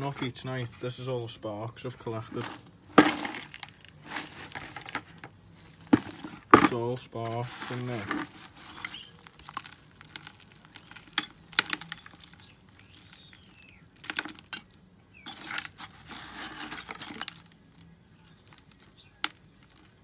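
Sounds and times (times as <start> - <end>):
scraping and shuffling: 0.0 - 20.0
metal scraps clinking in a bucket: 2.3 - 5.2, 5.8 - 20.0.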